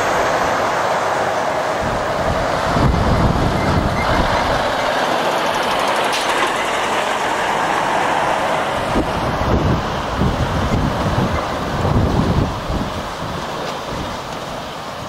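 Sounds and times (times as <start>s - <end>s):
diesel lorry engine rumble: 0.0s - 15.0s
tyres rolling on tarmac: 0.0s - 15.0s.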